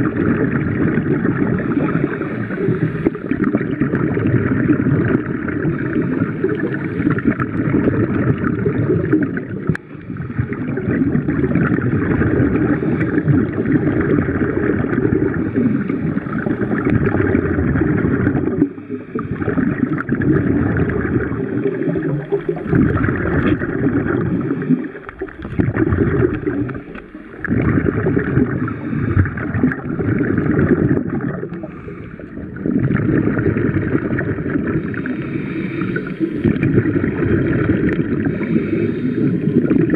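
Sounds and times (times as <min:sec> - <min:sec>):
underwater rushing gurgling water: 0:00.0 - 0:39.9.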